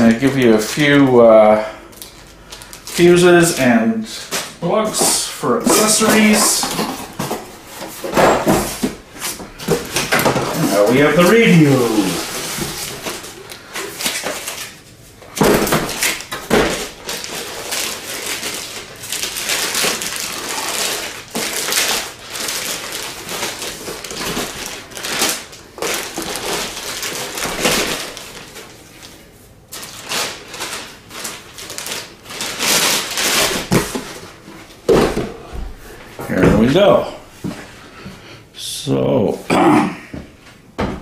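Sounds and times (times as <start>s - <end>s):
plastic bag crinkling: 0.0s - 34.9s
cardboard rustling and scraping: 4.3s - 37.8s.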